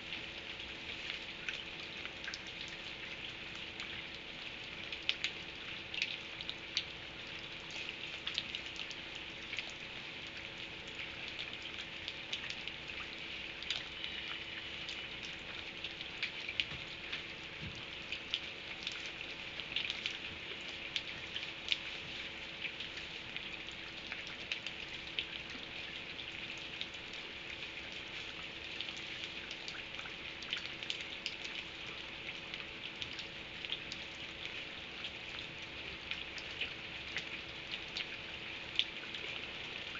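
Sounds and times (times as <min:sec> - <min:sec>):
faint steady hum: 0:00.0 - 0:39.9
steady rain falling: 0:00.0 - 0:39.9.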